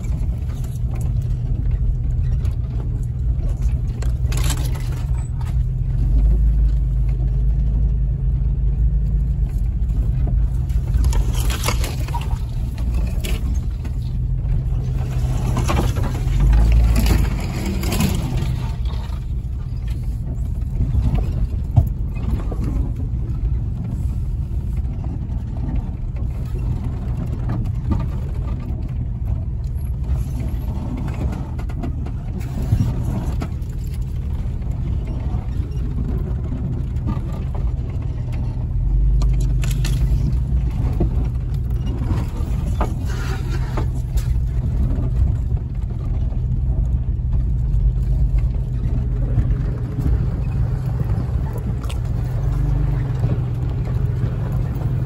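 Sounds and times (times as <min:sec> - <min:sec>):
vehicle engine and tyres rumbling: 0:00.0 - 0:55.0
vehicle rattling over bumps: 0:00.0 - 0:55.0.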